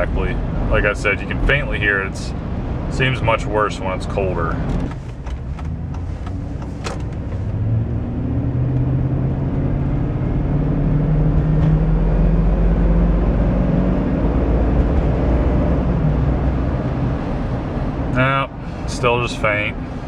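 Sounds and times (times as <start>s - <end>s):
road noise: 0.0s - 20.0s
truck engine accelerating: 0.0s - 20.0s.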